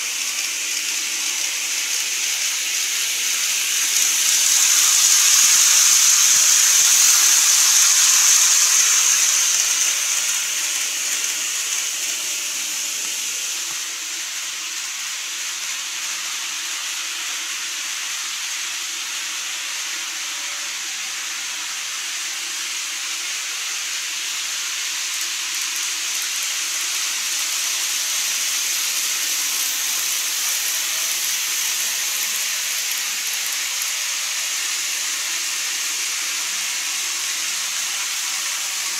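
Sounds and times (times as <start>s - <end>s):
model train rushing hiss: 0.0s - 38.9s.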